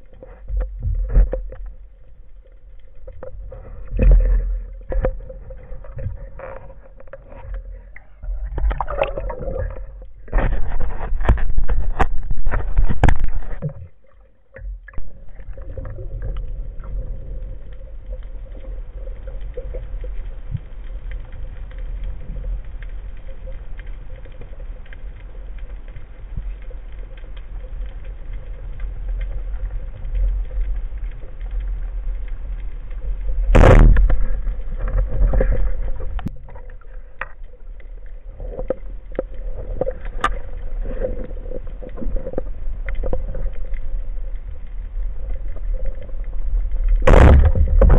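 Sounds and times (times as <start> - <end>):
underwater rumble: 0.0 - 47.9.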